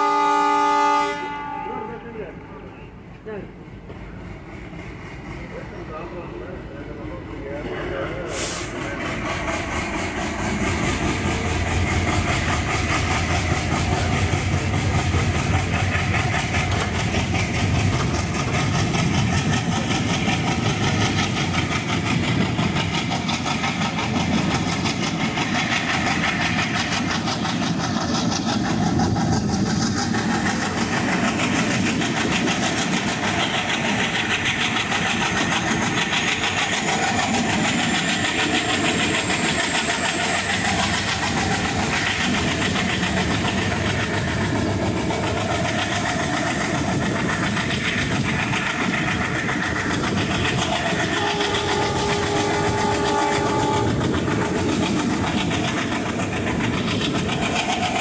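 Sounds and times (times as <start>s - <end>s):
train wheels rumbling and rattling: 2.0s - 58.0s.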